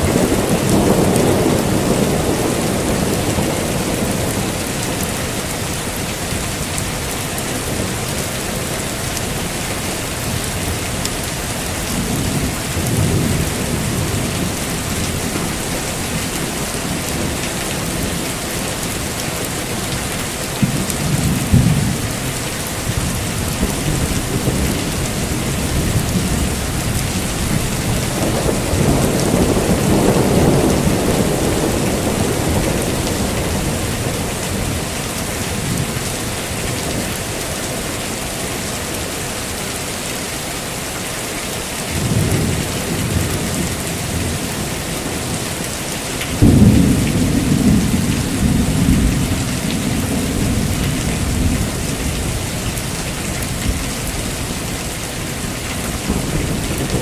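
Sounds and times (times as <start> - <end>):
thunder rumbling: 0.0 - 37.1, 41.9 - 57.0
heavy rain falling: 0.0 - 57.0.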